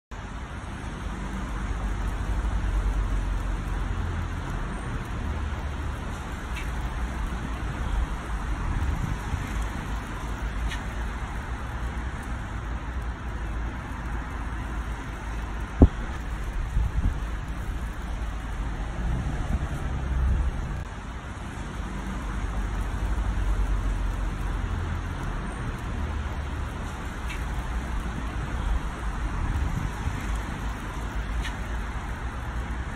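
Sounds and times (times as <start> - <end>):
rushing outdoor noise: 0.1 - 32.9.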